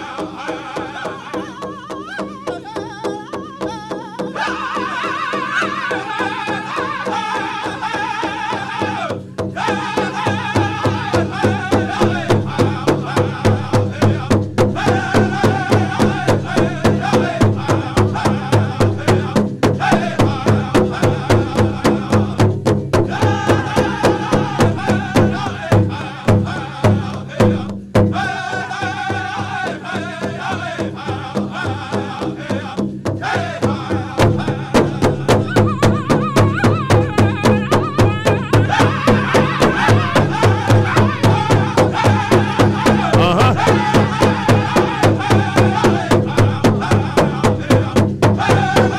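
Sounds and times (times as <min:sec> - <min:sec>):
bass drum beating: 0:00.0 - 0:48.9
men singing in unison: 0:00.0 - 0:48.9.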